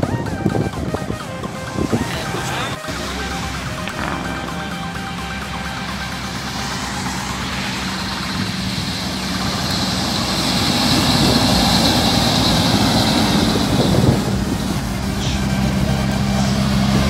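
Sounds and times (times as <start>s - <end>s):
truck diesel engine passing: 0.0s - 17.0s.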